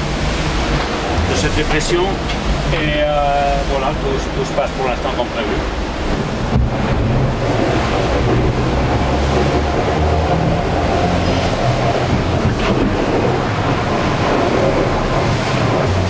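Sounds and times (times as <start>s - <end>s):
deep rumble: 0.0s - 16.0s
water rushing along a hull: 0.0s - 16.0s.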